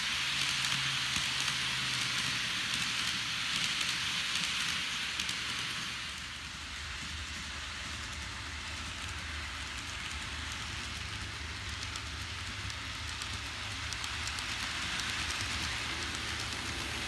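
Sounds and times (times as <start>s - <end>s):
model train wheels rolling on rails: 0.0s - 17.0s.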